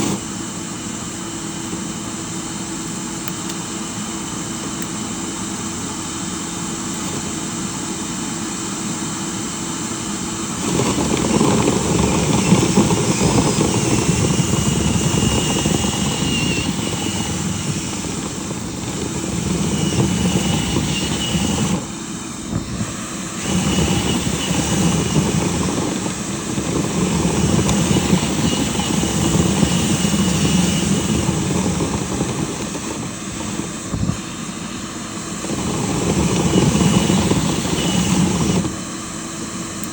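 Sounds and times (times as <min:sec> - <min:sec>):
cleaning equipment motor running: 0:00.0 - 0:39.9.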